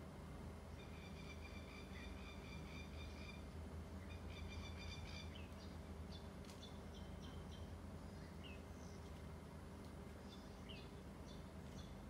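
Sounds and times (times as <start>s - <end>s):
steady low hum: 0.0s - 12.0s
birds chirping: 0.6s - 12.0s.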